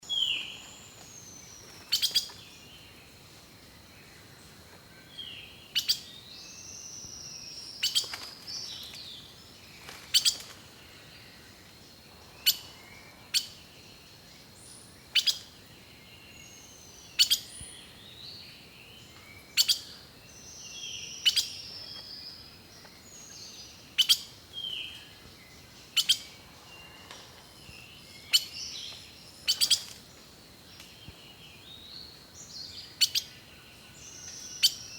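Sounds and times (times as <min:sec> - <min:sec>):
birds singing and chirping: 0:00.0 - 0:34.9.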